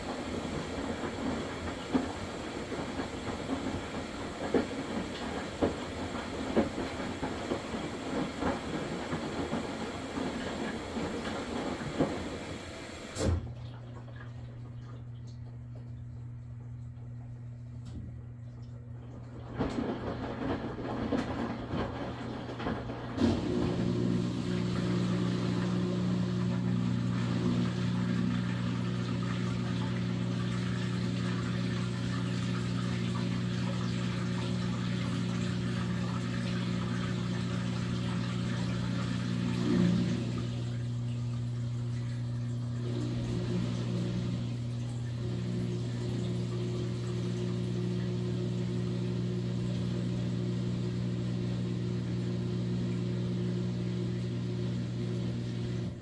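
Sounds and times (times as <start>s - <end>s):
washing machine clunk: 0.0s - 15.0s, 19.2s - 56.0s
washing machine humming: 0.0s - 56.0s.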